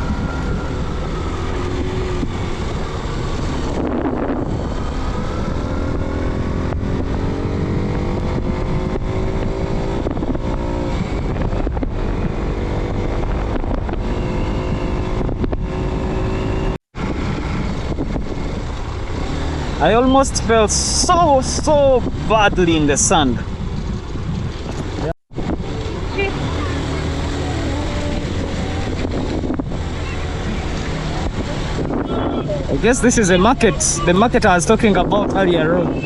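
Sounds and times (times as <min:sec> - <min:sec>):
motorcycle engine accelerating: 0:00.0 - 0:22.8, 0:23.4 - 0:36.0.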